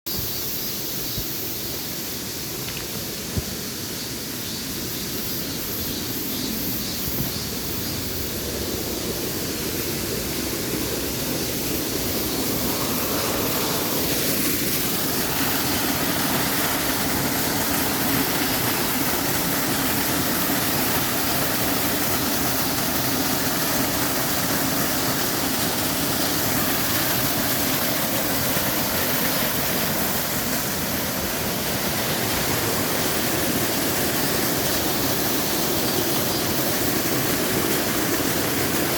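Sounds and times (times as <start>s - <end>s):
stream water rushing: 0.1s - 38.9s.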